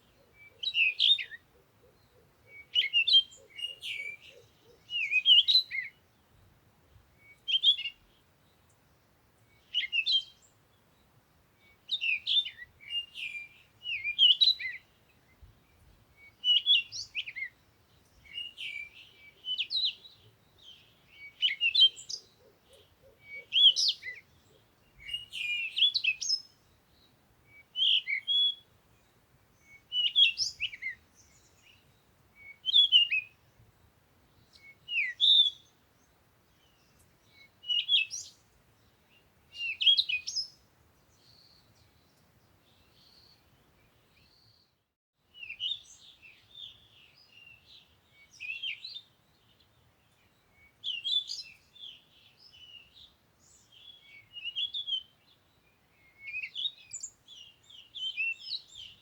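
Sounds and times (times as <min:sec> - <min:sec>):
bird chirping: 0:00.0 - 0:06.4, 0:07.2 - 0:33.6, 0:34.4 - 0:44.8, 0:45.4 - 0:59.0.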